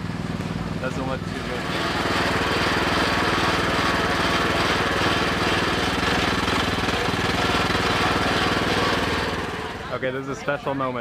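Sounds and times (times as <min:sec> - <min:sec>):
small engine chugging: 0:00.0 - 0:10.1.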